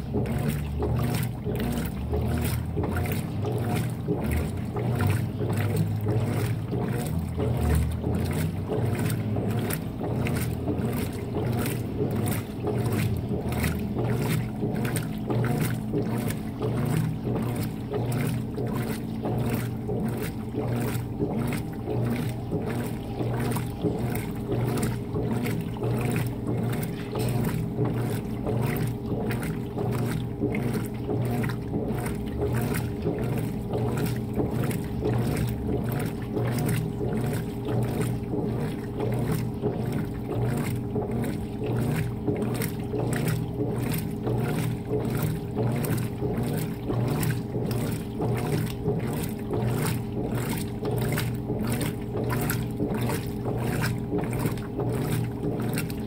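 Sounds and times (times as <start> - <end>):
washing machine motor hum: 0.0 - 56.0
water and clothes swishing: 0.0 - 56.0.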